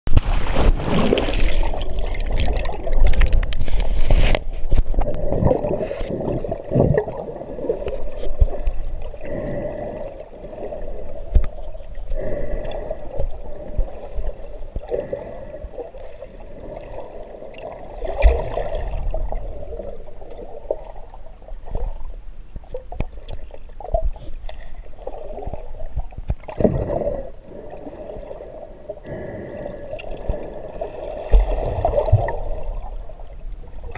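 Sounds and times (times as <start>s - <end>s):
muffled underwater rushing: 0.1s - 33.9s.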